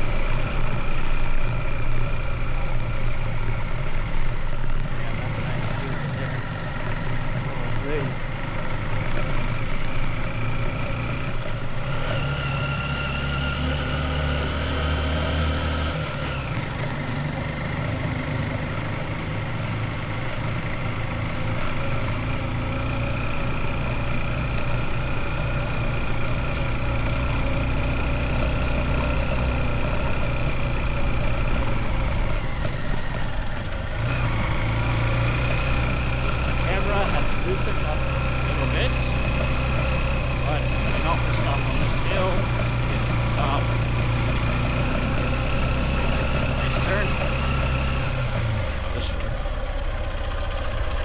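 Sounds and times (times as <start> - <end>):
motorbike engine running: 0.0 - 51.0.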